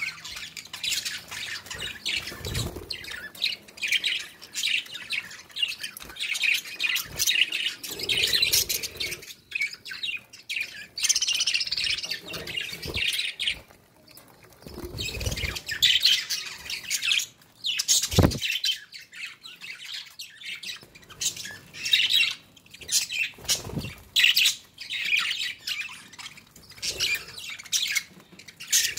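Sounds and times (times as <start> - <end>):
budgerigars chirping and chattering: 0.0 - 28.9.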